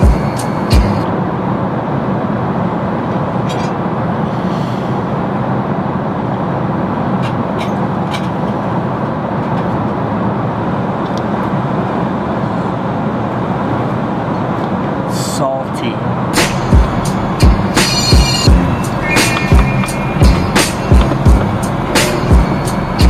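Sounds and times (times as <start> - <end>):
airliner cabin noise: 0.0 - 23.0.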